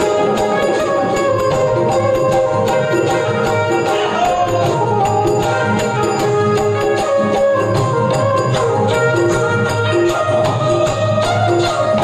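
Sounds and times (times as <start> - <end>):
electronic keyboard melody: 0.0 - 12.0
percussion beat with jingling: 0.0 - 12.0.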